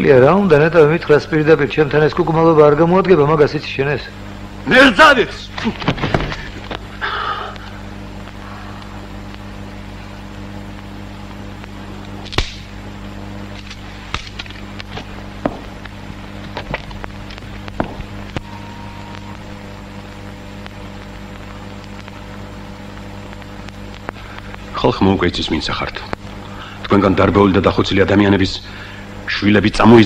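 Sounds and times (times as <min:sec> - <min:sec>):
old film soundtrack hum: 0:00.0 - 0:30.0.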